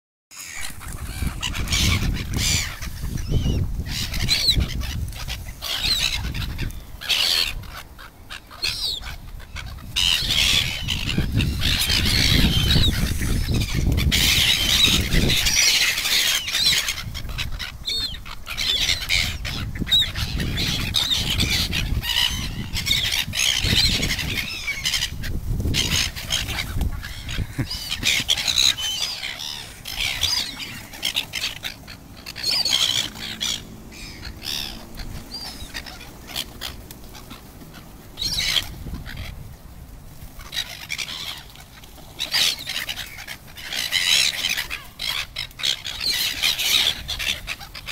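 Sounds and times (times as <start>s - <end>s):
gulls squawking: 0.3s - 39.6s, 40.2s - 47.9s.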